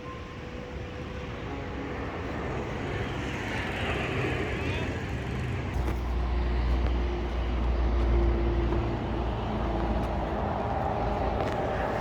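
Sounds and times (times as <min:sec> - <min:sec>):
passing motor vehicle rumble: 0:00.1 - 0:12.0.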